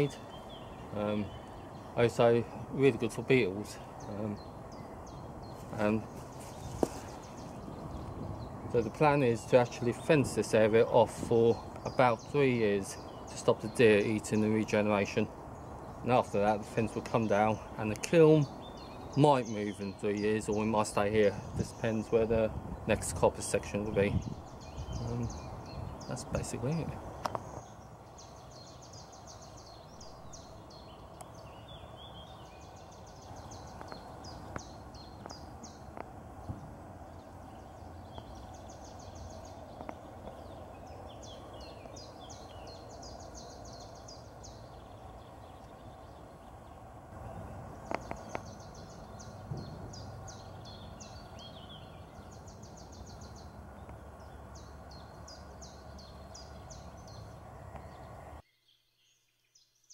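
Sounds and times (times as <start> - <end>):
outdoor background noise: 0.0 - 59.9
songbird singing: 0.0 - 59.9.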